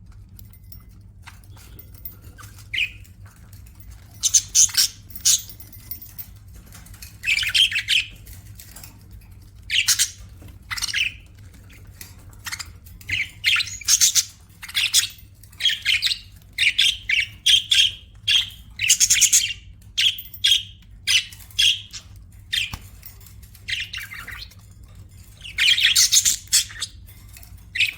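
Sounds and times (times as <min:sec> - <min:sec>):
budgerigars chirping and squawking: 0:01.2 - 0:03.2, 0:03.9 - 0:05.9, 0:06.8 - 0:27.9.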